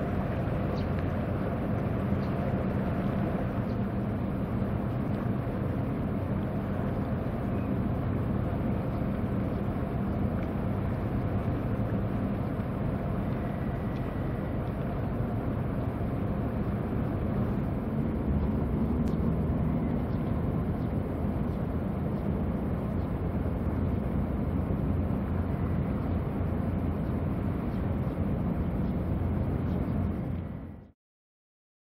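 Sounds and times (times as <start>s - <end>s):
ship engine drone: 0.0s - 31.0s.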